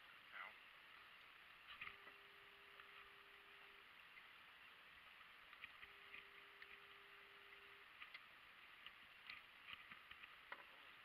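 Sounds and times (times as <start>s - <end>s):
faint hiss: 0.0s - 11.0s
faint hum: 0.0s - 11.0s.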